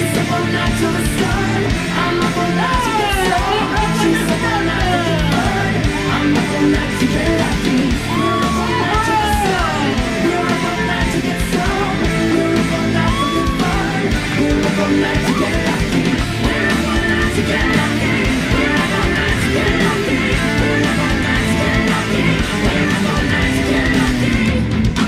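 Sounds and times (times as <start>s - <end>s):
loud rock music with guitar: 0.0s - 25.0s.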